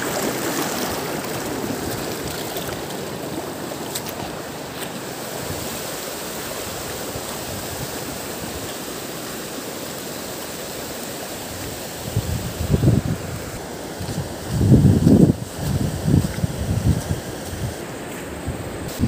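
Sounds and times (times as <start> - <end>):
river water running over stones: 0.0 - 19.0.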